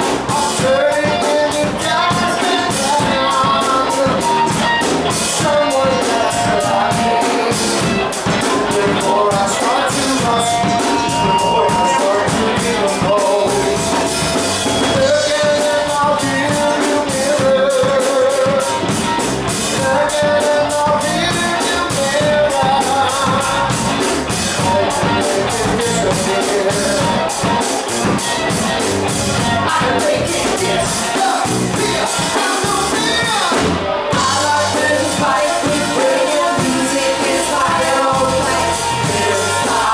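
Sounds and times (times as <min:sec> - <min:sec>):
person singing lead vocal: 0:00.0 - 0:28.6, 0:29.3 - 0:39.9
drum kit beat: 0:00.0 - 0:39.9
rock band playing: 0:00.0 - 0:39.9.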